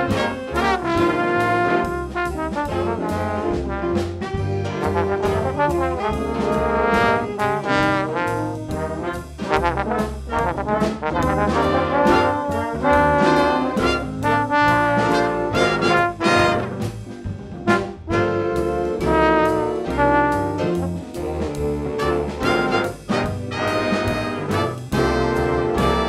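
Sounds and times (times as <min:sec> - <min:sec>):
percussion beat: 0:00.0 - 0:17.1, 0:19.0 - 0:26.0
brass band playing: 0:00.0 - 0:26.0.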